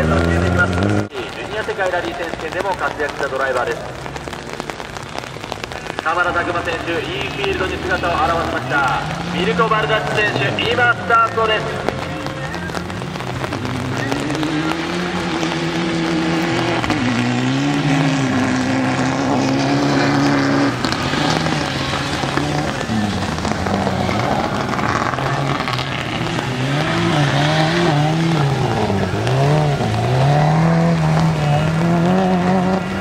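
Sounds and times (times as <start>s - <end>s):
rally car engine revving: 0.0s - 5.2s, 5.8s - 33.0s.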